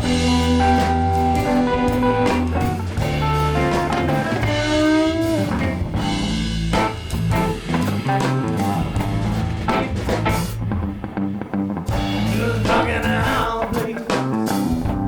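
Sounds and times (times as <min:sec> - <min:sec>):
guitar note bends: 0:00.0 - 0:13.3
live rock band playing: 0:00.0 - 0:15.0.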